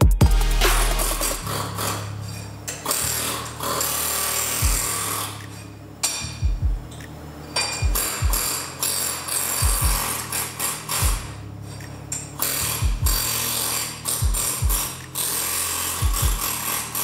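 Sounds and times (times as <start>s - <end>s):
music with deep thudding beat: 0.0s - 2.3s, 4.4s - 17.0s
pneumatic tool on steel: 0.6s - 6.4s, 7.5s - 17.0s.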